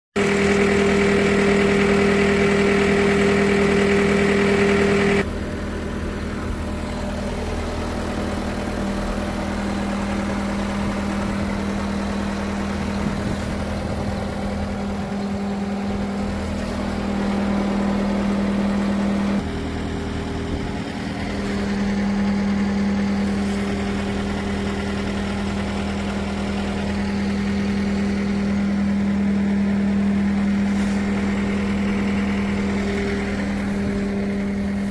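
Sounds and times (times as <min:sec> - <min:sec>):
diesel engine humming: 0:00.2 - 0:34.9.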